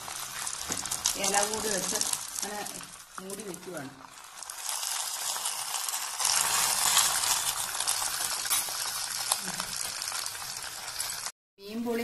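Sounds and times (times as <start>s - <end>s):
food sizzling in oil: 0.0s - 11.4s.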